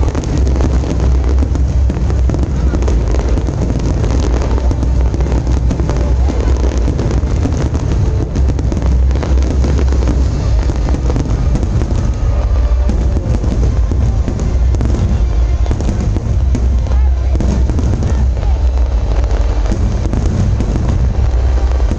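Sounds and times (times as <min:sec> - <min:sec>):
fireworks booms and crackling: 0:00.0 - 0:21.9.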